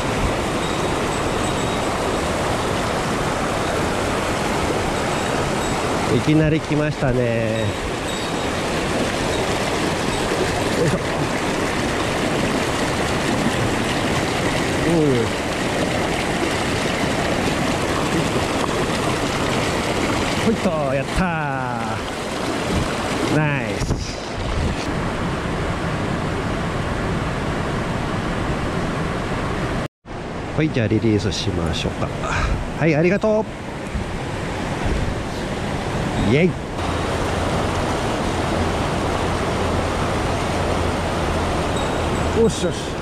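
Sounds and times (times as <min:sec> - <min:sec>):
stream rushing over boulders: 0:00.0 - 0:28.7, 0:29.7 - 0:43.0.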